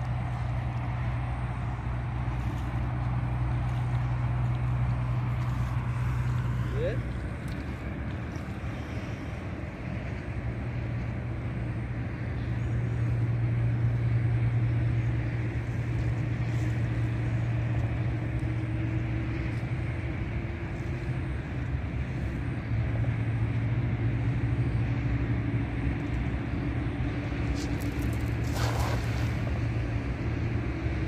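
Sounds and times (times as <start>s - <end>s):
droning hum: 0.0s - 31.0s
low outdoor rumble: 0.0s - 31.0s.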